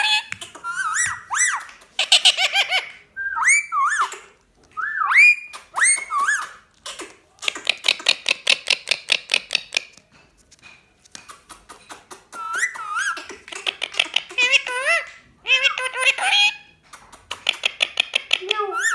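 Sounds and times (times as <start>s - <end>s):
parrot clicking chatter: 0.0s - 2.9s, 5.5s - 10.0s, 11.1s - 18.9s.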